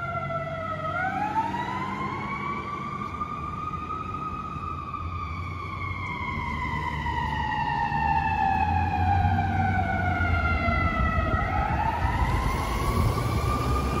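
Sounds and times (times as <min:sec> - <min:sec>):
fire engine siren wailing: 0:00.0 - 0:14.0.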